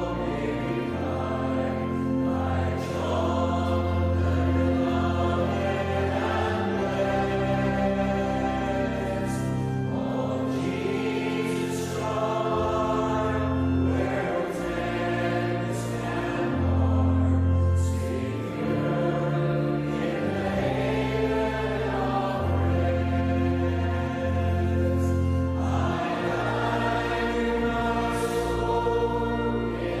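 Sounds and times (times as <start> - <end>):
choir singing slow music: 0.0 - 30.0.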